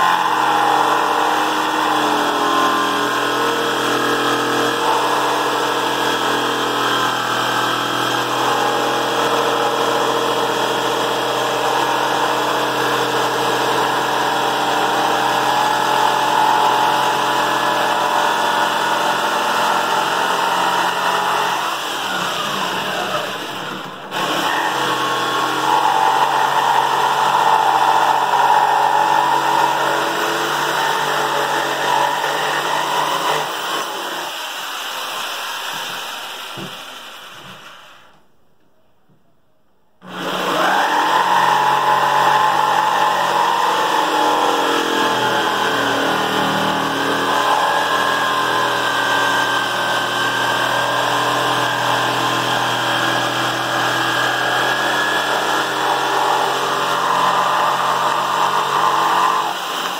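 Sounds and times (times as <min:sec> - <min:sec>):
jigsaw cutting wood: 0:00.0 - 0:37.8, 0:40.0 - 0:59.9.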